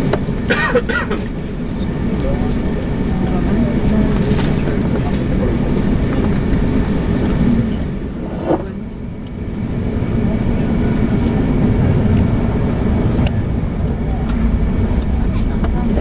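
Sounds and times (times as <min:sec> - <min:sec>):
aircraft cabin engine rumble: 0:00.0 - 0:16.0.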